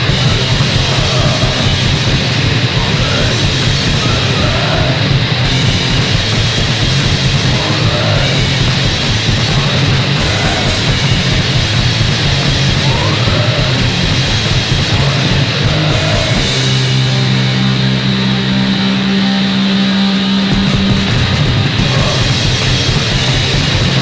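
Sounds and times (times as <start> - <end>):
distorted punk rock band: 0.0 - 24.0.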